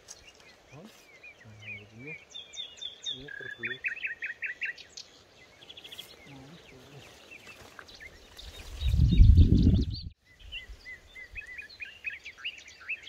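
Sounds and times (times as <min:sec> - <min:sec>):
birds singing and chirping: 0:00.0 - 0:13.0.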